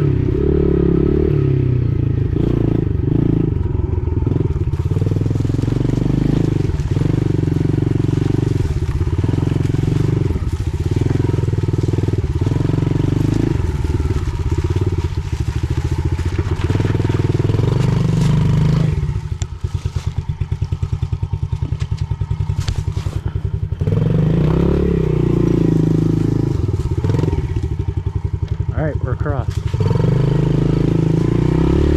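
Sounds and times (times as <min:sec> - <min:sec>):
pit bike engine revving: 0:00.0 - 0:31.9.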